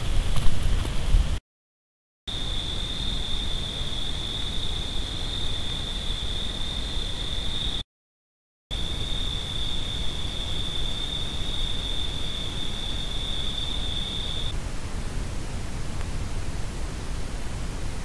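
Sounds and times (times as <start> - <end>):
microphone hiss: 2.3 - 7.8, 8.8 - 18.0.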